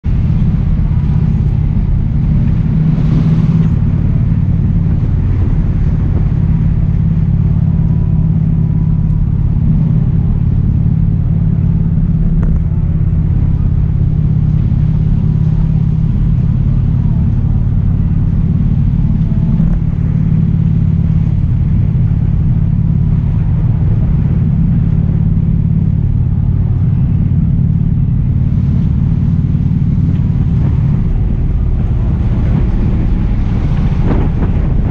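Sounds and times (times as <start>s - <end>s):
motorcycle engine cruising: 0.0s - 34.9s.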